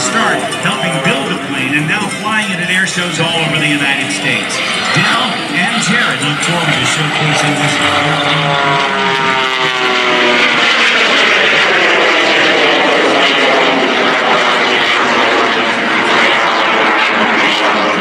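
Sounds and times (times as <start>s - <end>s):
biplane engine flying past: 0.0s - 18.0s.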